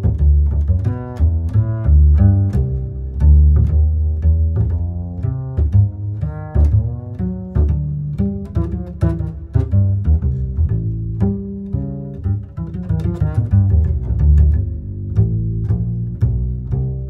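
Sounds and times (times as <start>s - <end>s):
plucked string bass line: 0.0s - 17.0s.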